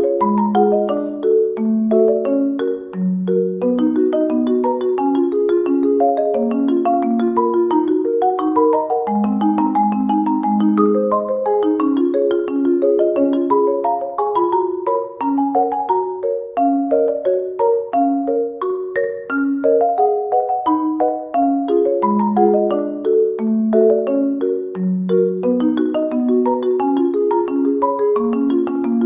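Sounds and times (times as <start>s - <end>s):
marimba-like mallet tune: 0.0s - 29.0s.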